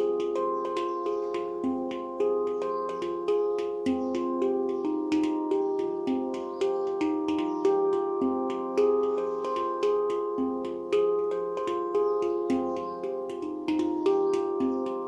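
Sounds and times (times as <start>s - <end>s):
handpan notes ringing: 0.0s - 15.0s.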